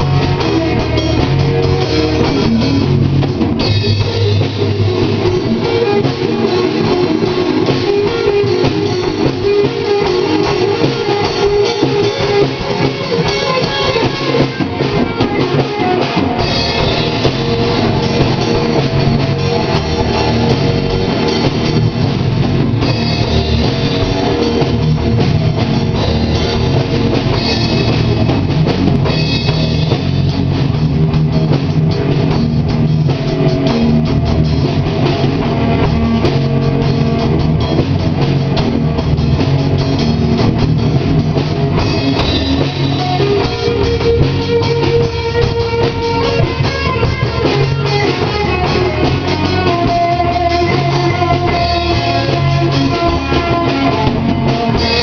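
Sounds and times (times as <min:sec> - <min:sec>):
drum kit: 0:00.0 - 0:55.0
electric guitars: 0:00.0 - 0:55.0
instrumental rock music: 0:00.0 - 0:55.0.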